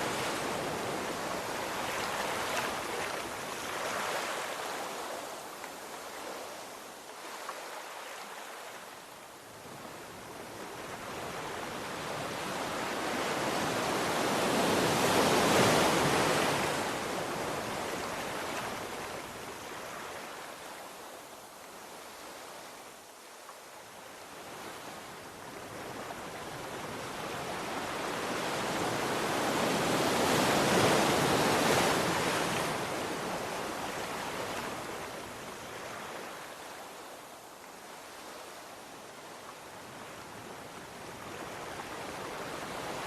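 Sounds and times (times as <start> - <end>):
ocean waves washing on shore: 0.0 - 43.0.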